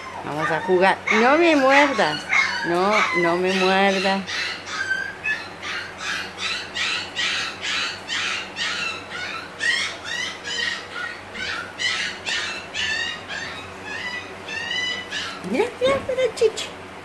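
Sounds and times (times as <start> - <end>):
puppies squealing: 0.0 - 16.1.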